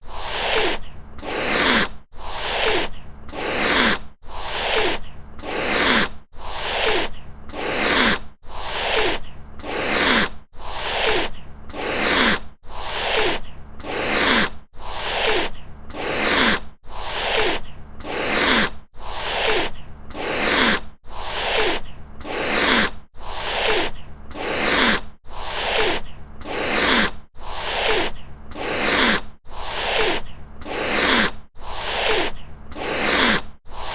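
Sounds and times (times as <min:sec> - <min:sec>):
cat hissing: 0:00.0 - 0:33.9.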